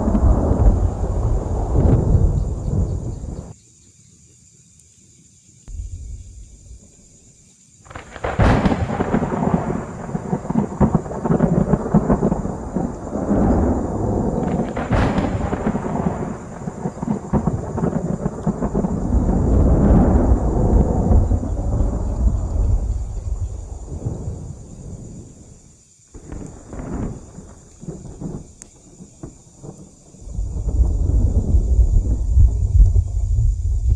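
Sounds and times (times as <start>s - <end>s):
rolling thunder rumble: 0.0s - 3.6s, 5.7s - 25.6s, 26.2s - 33.9s
thunder crack: 0.0s - 3.6s, 5.7s - 7.2s, 7.9s - 25.3s, 26.2s - 33.9s.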